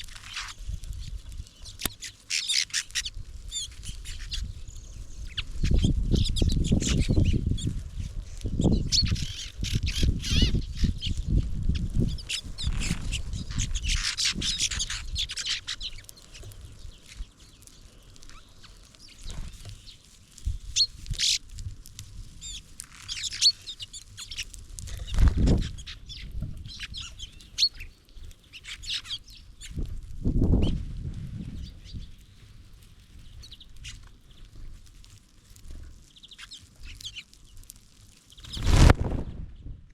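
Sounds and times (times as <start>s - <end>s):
songbirds chirping: 0.0s - 38.6s.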